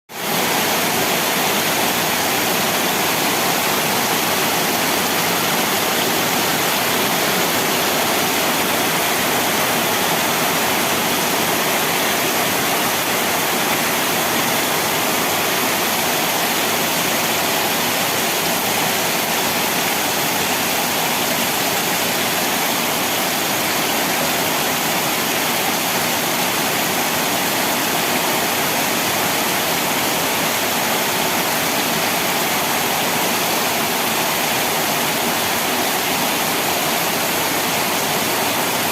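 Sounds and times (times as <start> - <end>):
heavy rain pouring: 0.1 - 38.9.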